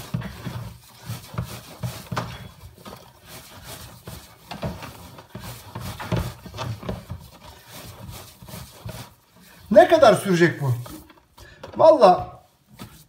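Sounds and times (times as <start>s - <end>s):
hands kneading mixture in metal pan: 0.0s - 13.0s.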